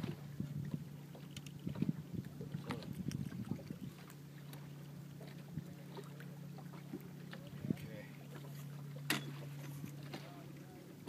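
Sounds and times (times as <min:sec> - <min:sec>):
knocks and water splashes: 0:00.0 - 0:11.0
outboard motor humming: 0:00.0 - 0:11.0.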